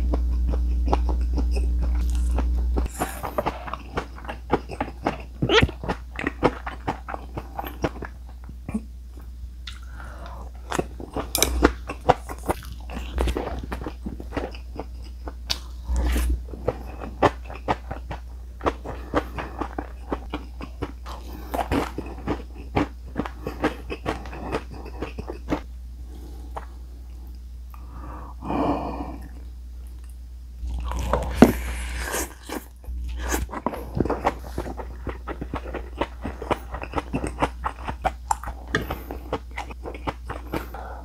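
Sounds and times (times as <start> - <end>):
person chewing crunchy food: 0.0 - 27.2, 29.1 - 41.0.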